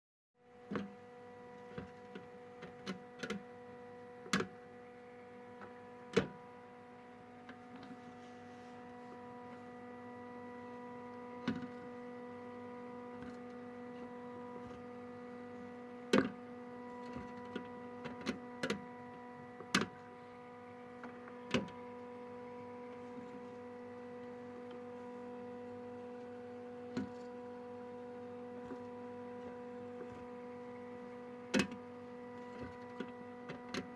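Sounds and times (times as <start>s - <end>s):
electrical hum: 0.4s - 33.9s.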